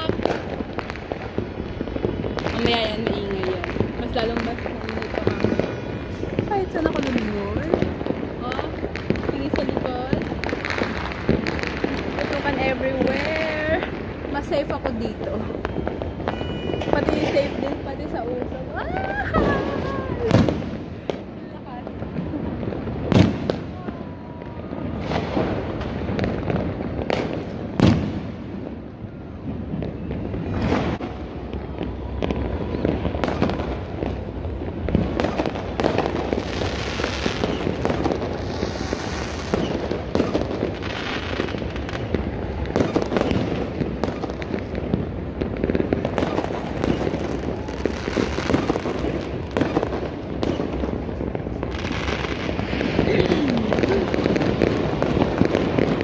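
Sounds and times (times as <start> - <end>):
fireworks bangs: 0.0 - 56.0
fireworks crackling and popping: 0.0 - 56.0.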